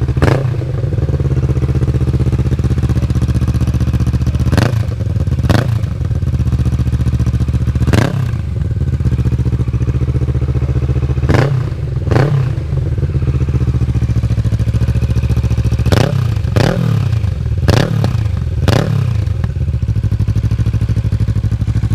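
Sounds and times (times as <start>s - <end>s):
motorcycle engine idling and revving: 0.0s - 21.9s.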